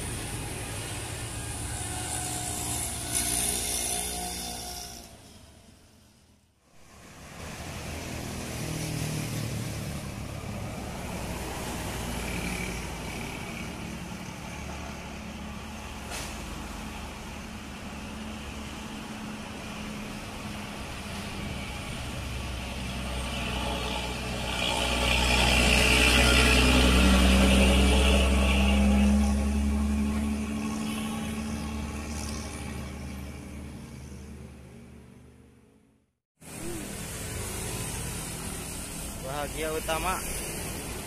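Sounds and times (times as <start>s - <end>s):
heavy truck engine drone: 0.0s - 41.0s
traffic passing: 0.0s - 41.0s.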